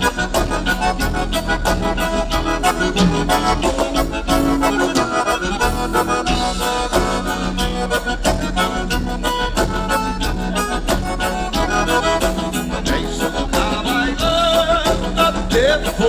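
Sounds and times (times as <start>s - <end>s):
accordion dance band music: 0.0s - 16.0s.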